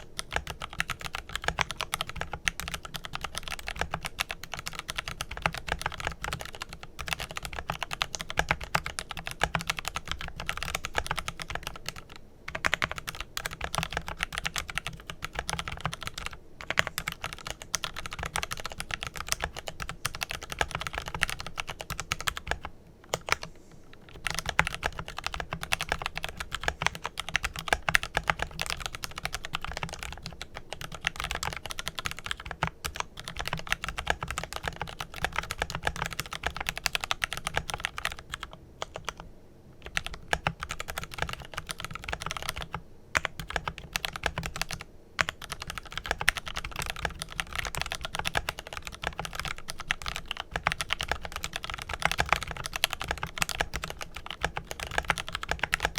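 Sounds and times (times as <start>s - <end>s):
mechanical keyboard typing: 0.0s - 39.2s, 39.8s - 55.9s.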